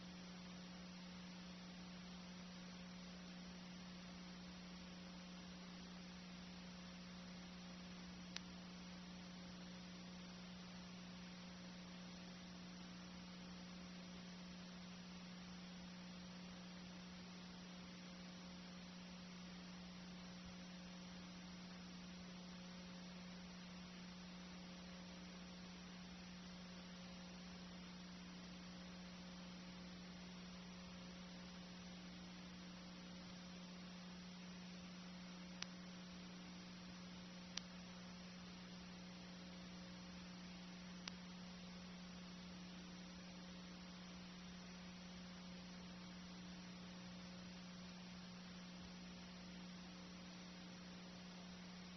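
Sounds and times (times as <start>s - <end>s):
faint electrical hum: 0.0s - 51.9s.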